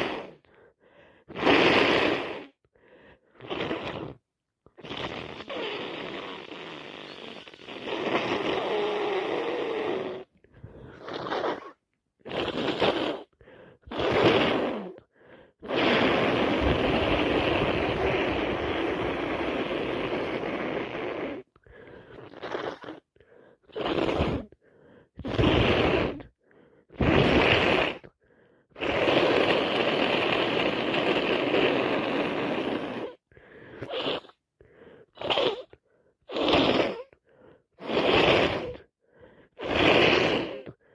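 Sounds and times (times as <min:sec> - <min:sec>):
person blowing nose: 0:00.0 - 0:00.5, 0:01.2 - 0:02.6, 0:03.2 - 0:24.6, 0:25.2 - 0:40.9
short sniffs: 0:00.0 - 0:40.9.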